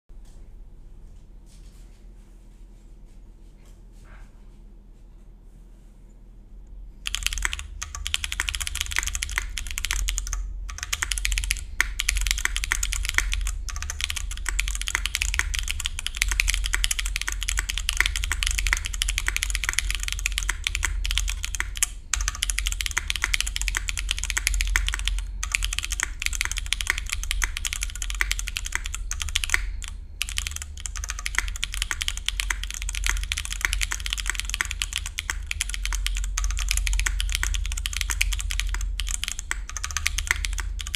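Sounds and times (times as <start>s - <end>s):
mechanical keyboard typing: 7.0s - 40.9s.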